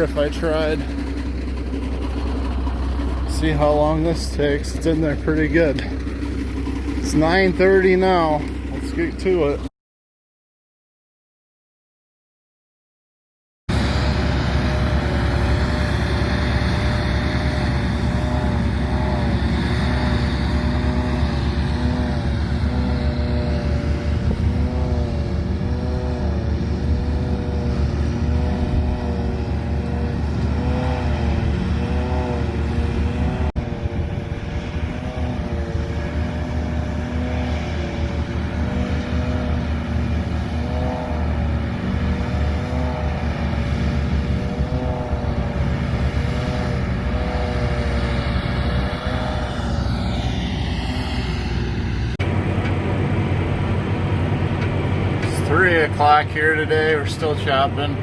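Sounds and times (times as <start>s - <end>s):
farm machinery engine running: 0.0s - 9.7s, 13.7s - 58.0s.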